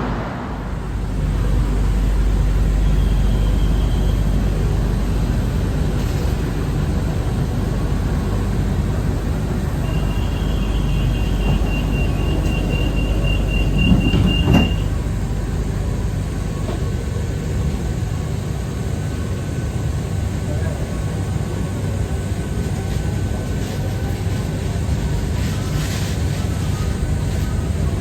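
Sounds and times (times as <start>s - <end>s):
monorail wheels rumbling: 0.0s - 28.0s.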